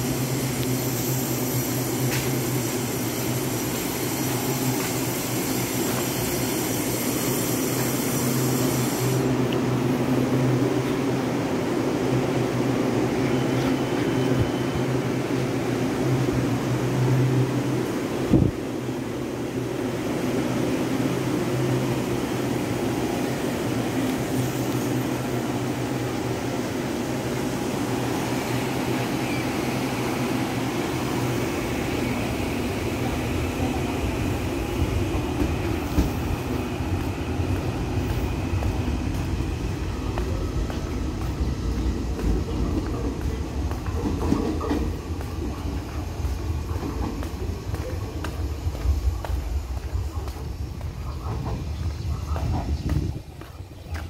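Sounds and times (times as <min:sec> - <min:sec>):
electric train rumbling through: 0:00.0 - 0:54.0.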